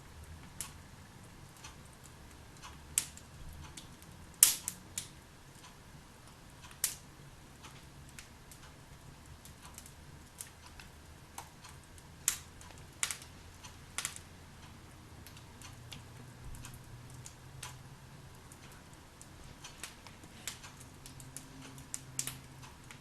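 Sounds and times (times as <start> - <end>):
logs crackling in a fireplace: 0.0 - 23.0.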